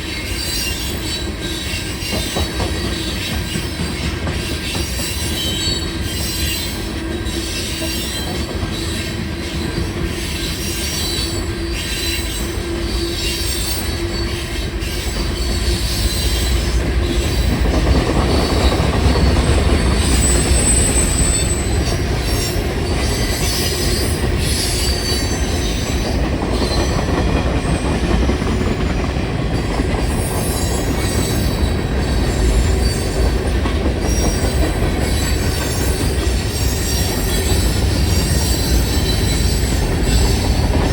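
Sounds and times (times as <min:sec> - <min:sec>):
train wheels clattering on rails: 0:00.0 - 0:40.9
train wheels squealing: 0:00.0 - 0:40.9.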